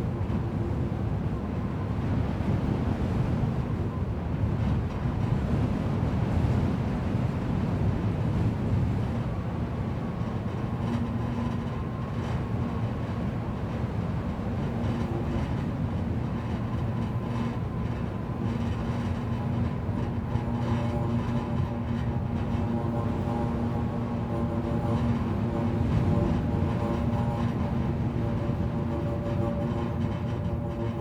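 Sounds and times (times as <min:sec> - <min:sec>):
faint humming tones: 0:00.0 - 0:31.0.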